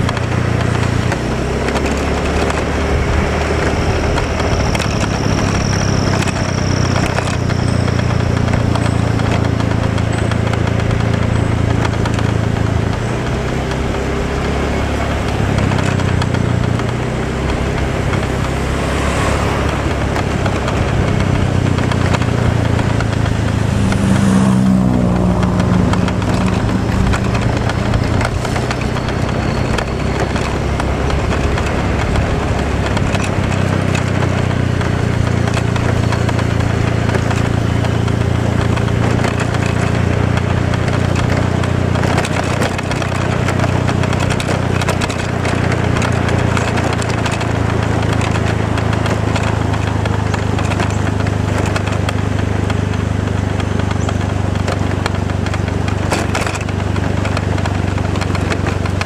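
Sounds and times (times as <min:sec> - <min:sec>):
road noise: 0:00.0 - 0:59.0
vehicle engine droning: 0:00.0 - 0:59.0.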